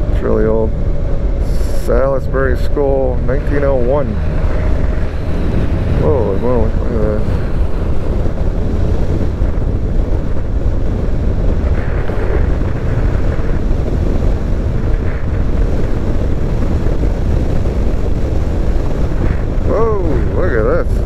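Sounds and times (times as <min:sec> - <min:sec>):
motorcycle running: 0:00.0 - 0:21.0
road noise: 0:00.0 - 0:21.0
wind buffeting microphone: 0:00.0 - 0:21.0.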